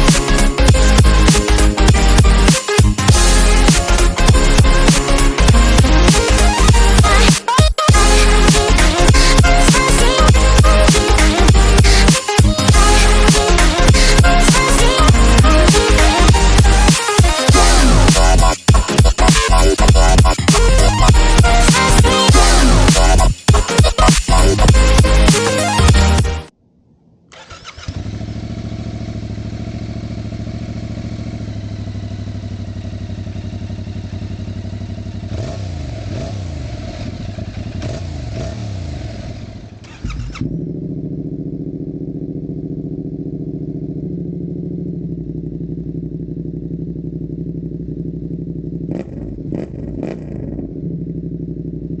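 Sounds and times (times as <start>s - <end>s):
motorcycle engine idling and revving: 0.0s - 26.4s, 27.3s - 52.0s.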